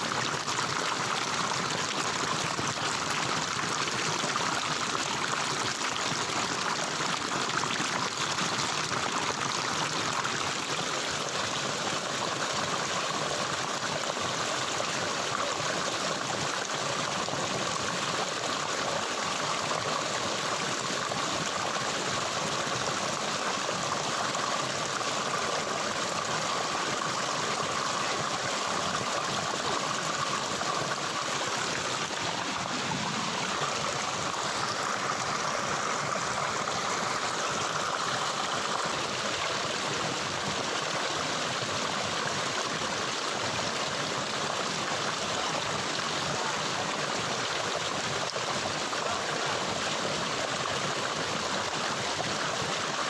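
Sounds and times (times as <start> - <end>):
flowing stream water: 0.0 - 53.0.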